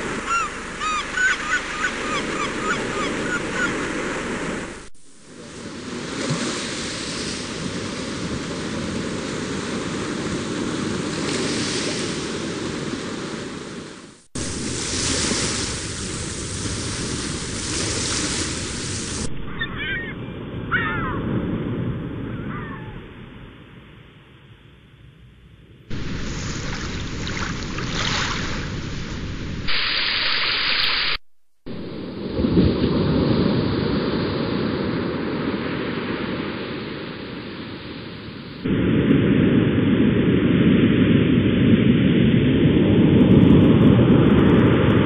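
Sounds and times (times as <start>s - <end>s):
ocean surf rushing: 0.0s - 24.0s, 25.9s - 45.0s.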